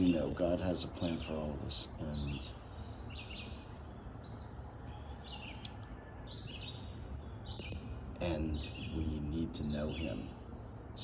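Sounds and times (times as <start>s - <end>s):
low background hum: 0.0s - 11.0s
songbird chirping: 0.0s - 11.0s.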